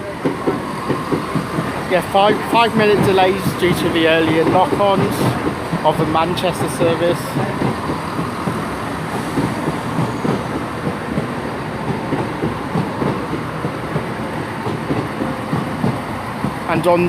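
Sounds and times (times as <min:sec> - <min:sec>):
diesel train engine: 0:00.0 - 0:17.0
wheels rumbling on rails: 0:00.0 - 0:17.0.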